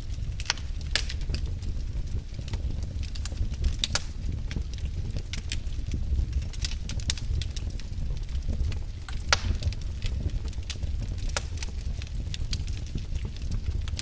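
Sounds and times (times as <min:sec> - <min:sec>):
fire pops and snaps: 0:00.0 - 0:14.0
low rumble of fire: 0:00.0 - 0:14.0
wood fire crackling: 0:00.0 - 0:14.0.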